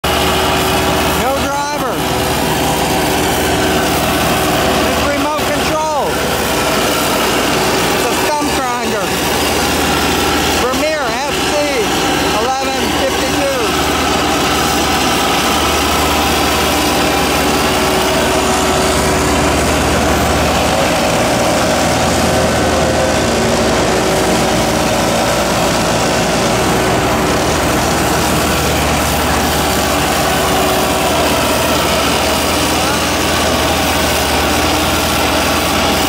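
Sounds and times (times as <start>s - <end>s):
stump grinder engine running: 0.0s - 36.0s.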